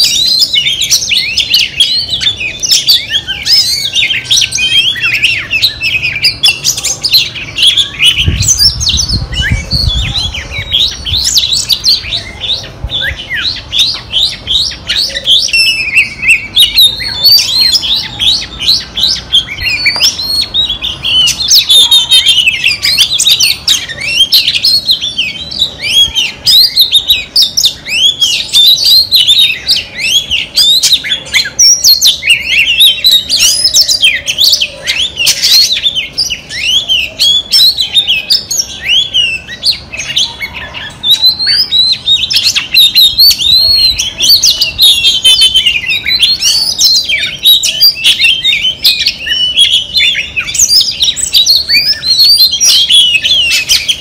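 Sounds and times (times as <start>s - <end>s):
bird singing whistles and chirps: 0.0s - 54.0s.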